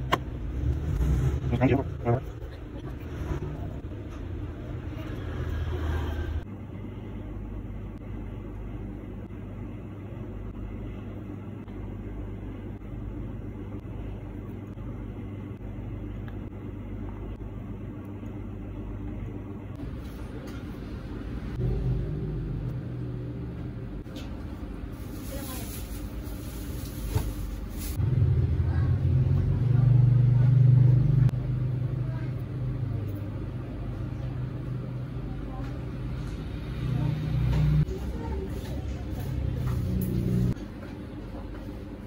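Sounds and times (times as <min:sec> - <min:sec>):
low background rumble: 0:00.0 - 0:40.6.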